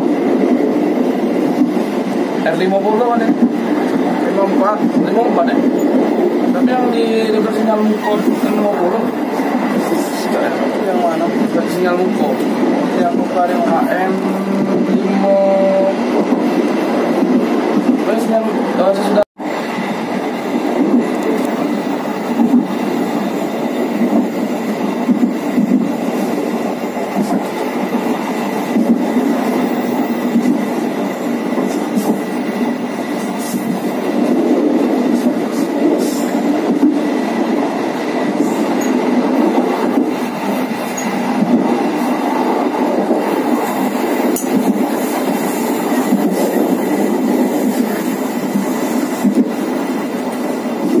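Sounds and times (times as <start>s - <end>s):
train wheels on rail: 0.0s - 51.0s.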